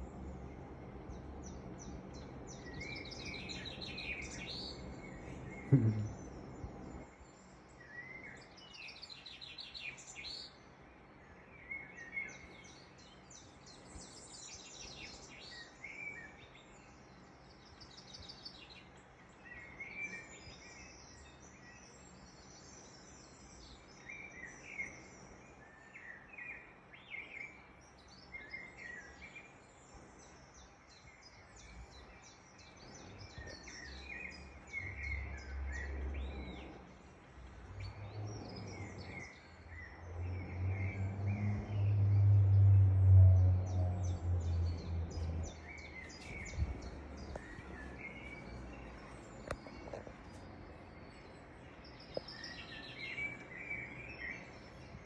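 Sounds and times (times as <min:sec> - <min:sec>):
faint low hum: 0:00.0 - 0:55.0
small birds chirping and trilling: 0:00.0 - 0:55.0.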